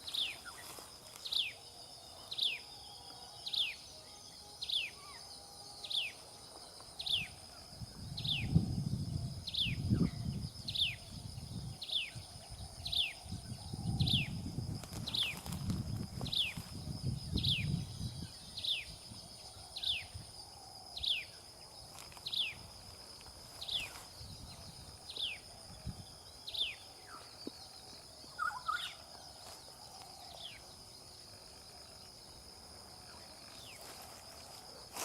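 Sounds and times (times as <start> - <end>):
high insect whine: 0.0 - 35.0.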